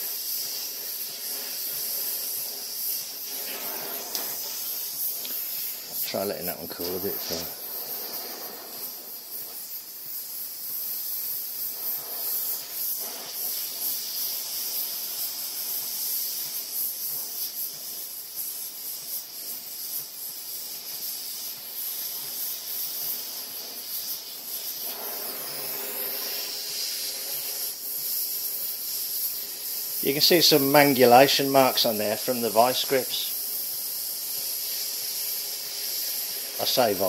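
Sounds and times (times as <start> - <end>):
gas torch flame hissing: 0.0 - 37.0.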